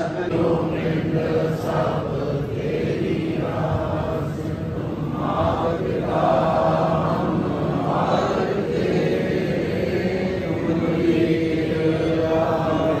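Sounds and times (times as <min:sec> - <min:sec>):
congregation chanting in unison: 0:00.0 - 0:13.0.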